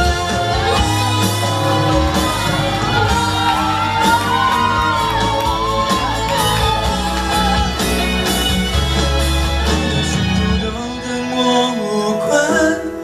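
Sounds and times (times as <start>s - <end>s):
strong bass: 0.0s - 11.0s
pop ballad backing track: 0.0s - 13.0s.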